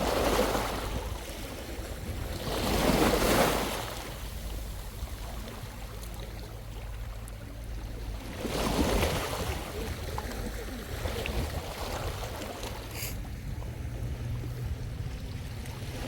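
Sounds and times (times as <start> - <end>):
low wind rumble: 0.0 - 16.0
small waves washing on beach: 0.0 - 16.0.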